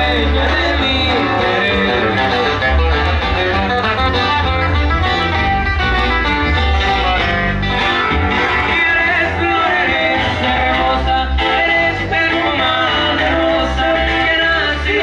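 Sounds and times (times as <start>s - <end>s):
bass line: 0.0s - 15.0s
plucked guitar melody: 0.0s - 15.0s.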